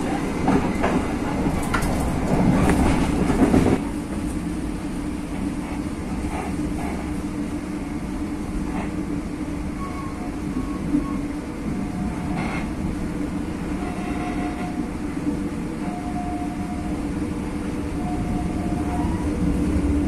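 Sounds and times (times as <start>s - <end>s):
passenger train rumbling: 0.0s - 20.0s.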